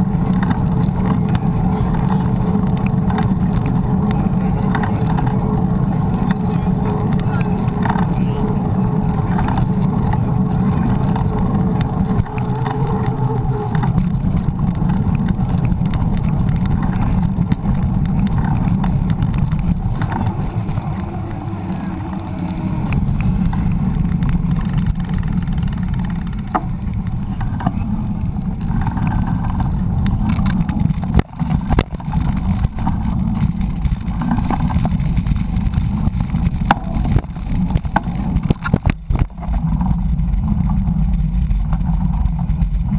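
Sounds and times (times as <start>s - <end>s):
bike knocking over rough pavement: 0.0s - 21.6s, 22.9s - 42.9s
bike road rumble: 0.0s - 42.9s
motor traffic passing: 0.0s - 42.9s
wind buffeting microphone: 0.0s - 42.9s.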